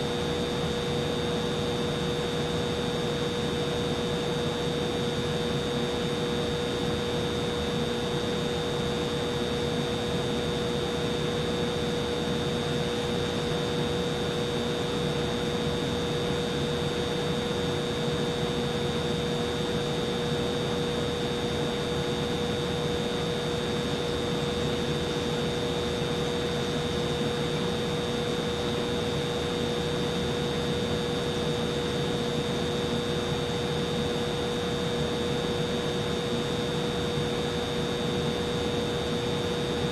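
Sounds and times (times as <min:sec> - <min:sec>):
humidifier fan whirring: 0:00.0 - 0:39.9.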